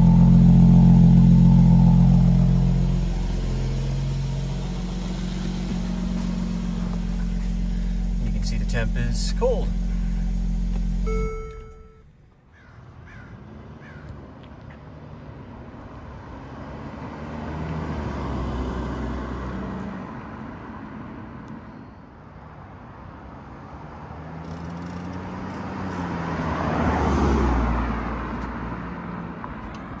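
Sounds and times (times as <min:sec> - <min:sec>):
car engine driving by: 0:00.0 - 0:21.5, 0:23.6 - 0:30.0.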